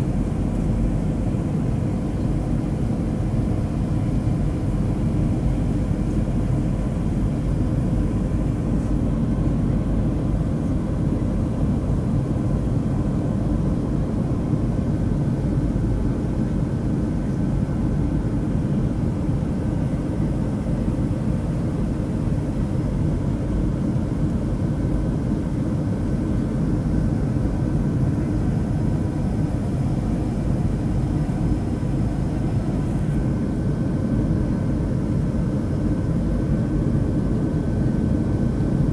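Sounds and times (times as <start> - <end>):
jet engines and airflow roar: 0.0 - 38.9.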